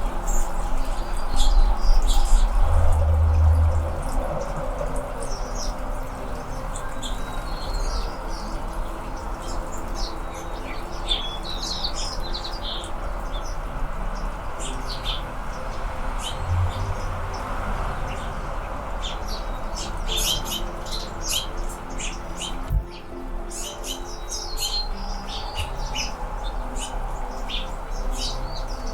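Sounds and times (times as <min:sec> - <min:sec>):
low background rumble: 0:00.0 - 0:11.0, 0:12.2 - 0:28.9.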